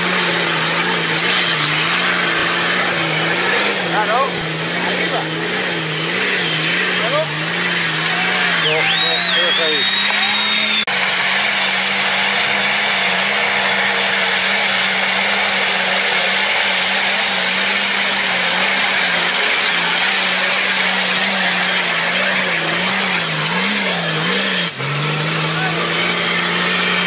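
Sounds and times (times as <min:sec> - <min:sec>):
engine at high revs: 0:00.0 - 0:27.0.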